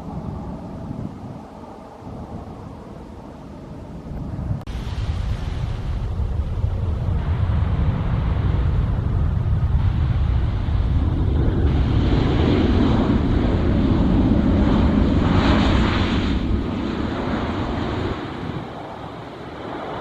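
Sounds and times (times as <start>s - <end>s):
jet engines roaring: 0.0s - 20.0s
wind buffeting microphone: 0.0s - 20.0s.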